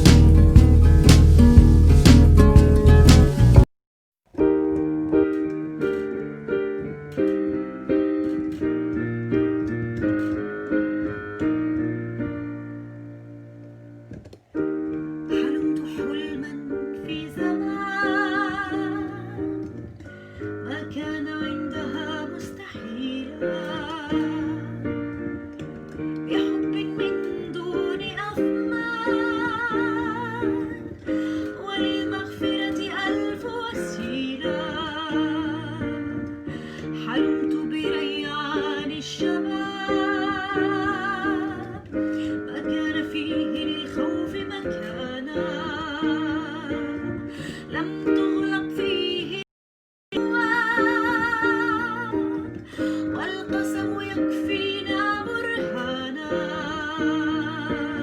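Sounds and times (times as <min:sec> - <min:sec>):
piano chords: 0:00.0 - 0:03.7, 0:04.3 - 0:49.5, 0:50.1 - 0:58.0.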